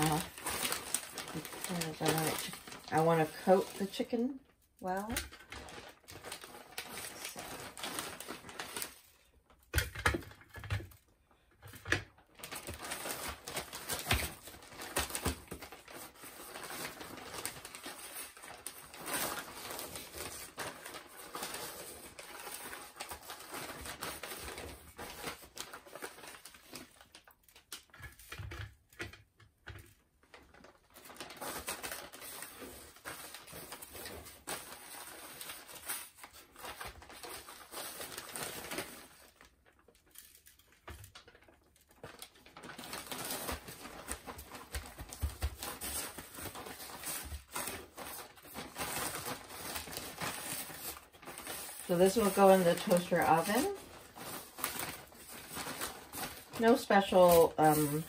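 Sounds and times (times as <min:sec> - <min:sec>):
plastic bag rustling and crinkling: 0:00.0 - 0:58.0.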